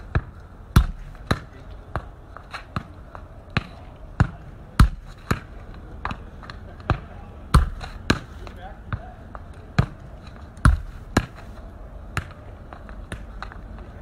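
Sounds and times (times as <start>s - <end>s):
football kicks on paving: 0.1s - 11.5s.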